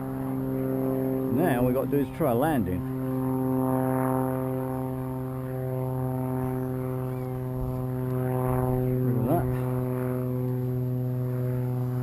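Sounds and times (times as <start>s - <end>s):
model plane propeller hum: 0.0s - 12.0s.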